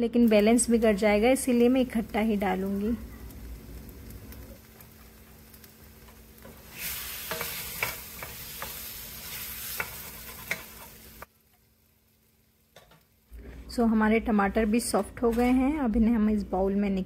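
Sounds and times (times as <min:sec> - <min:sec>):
tomatoes sizzling in oil: 0:00.0 - 0:14.9.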